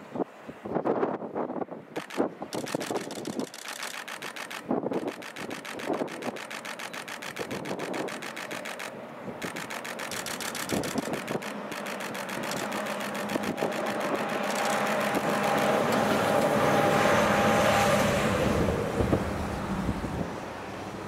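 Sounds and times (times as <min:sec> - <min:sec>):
locomotive engine passing: 0:02.0 - 0:21.0.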